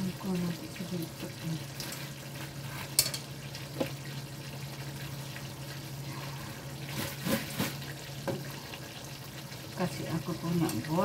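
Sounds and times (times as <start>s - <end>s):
sauce bubbling in a wok: 0.0s - 11.0s.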